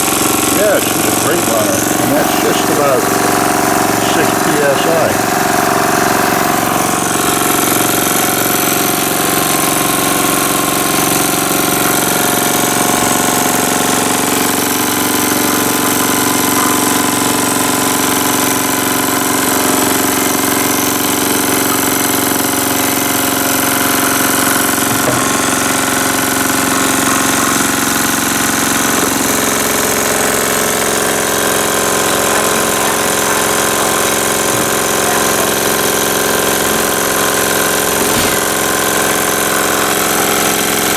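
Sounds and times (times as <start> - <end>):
model steam engine running: 0.0 - 40.9.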